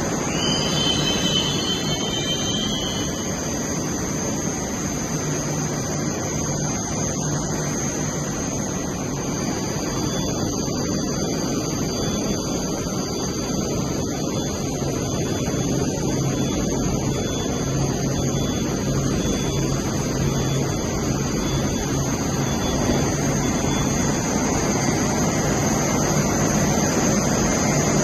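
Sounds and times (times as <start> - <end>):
low hum: 0.0 - 28.0
metro station rumble: 0.0 - 28.0.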